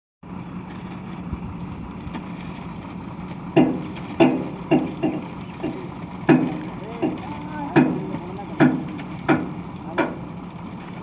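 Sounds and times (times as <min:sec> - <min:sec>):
drilling rig engine hum: 0:00.2 - 0:11.0.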